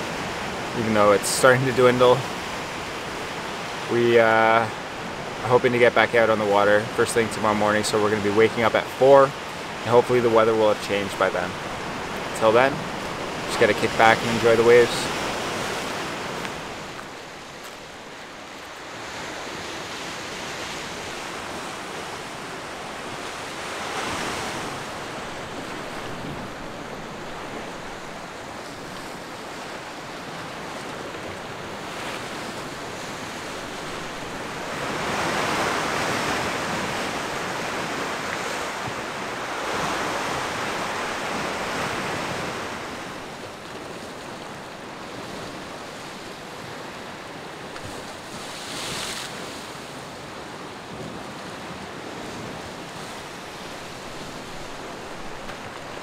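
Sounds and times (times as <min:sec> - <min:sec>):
waves breaking on rocky shore: 0:00.0 - 0:56.0.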